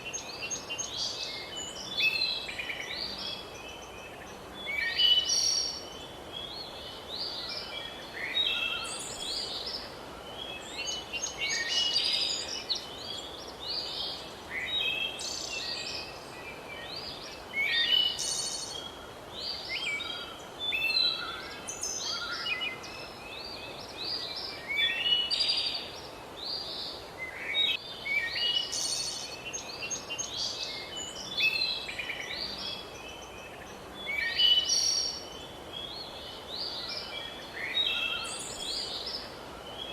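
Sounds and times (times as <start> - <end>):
birds singing and calling: 0.0 - 39.9
faint steady hiss: 0.0 - 39.9.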